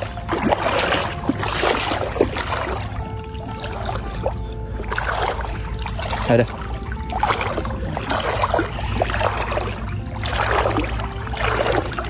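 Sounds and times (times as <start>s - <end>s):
shallow water sloshing and splashing: 0.0s - 12.0s.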